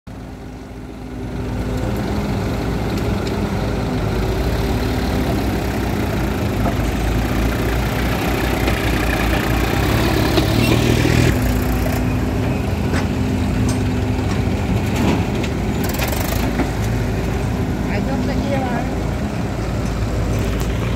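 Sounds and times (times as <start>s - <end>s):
excavator diesel engine: 0.1s - 20.9s
tractor idling: 0.1s - 20.9s.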